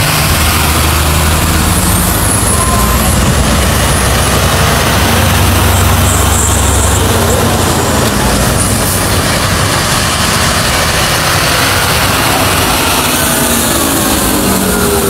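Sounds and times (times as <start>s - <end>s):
fire truck diesel engine passing: 0.0s - 15.0s
tanker truck passing: 0.0s - 15.0s.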